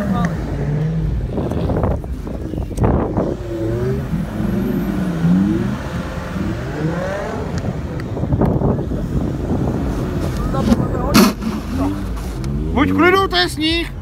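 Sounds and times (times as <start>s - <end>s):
car engine revving: 0.0s - 14.0s
road noise: 0.0s - 14.0s.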